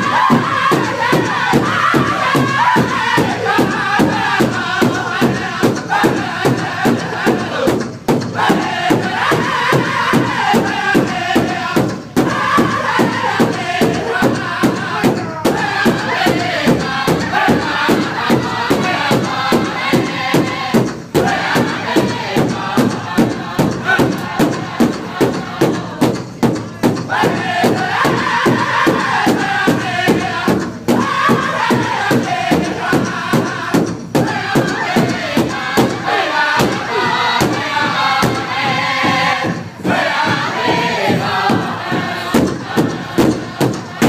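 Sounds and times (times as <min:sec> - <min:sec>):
large drum beating: 0:00.0 - 0:44.0
men singing in high voices: 0:00.0 - 0:44.0.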